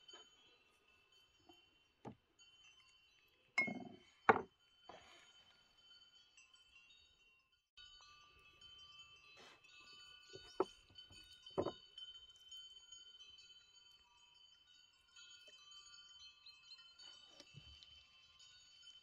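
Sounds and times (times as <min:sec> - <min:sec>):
chimes ringing: 0:00.0 - 0:19.0.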